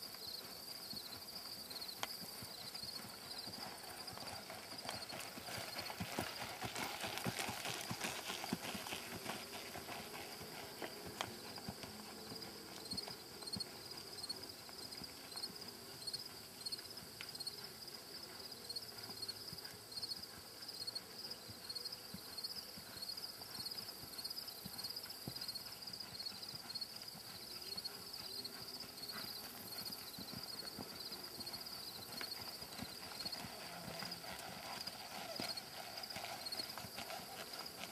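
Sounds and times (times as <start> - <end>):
horse hoofbeats on dirt: 0.0 - 37.9.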